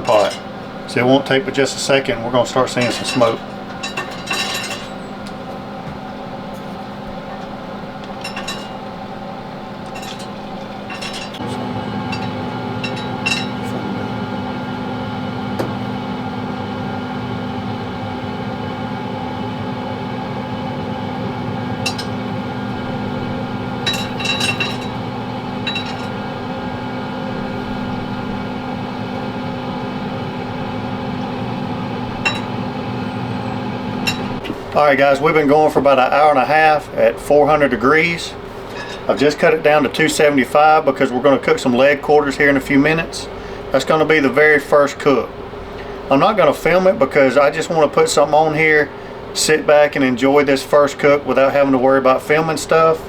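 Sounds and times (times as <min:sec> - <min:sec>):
smoker fan motor hum: 0:00.0 - 0:53.0.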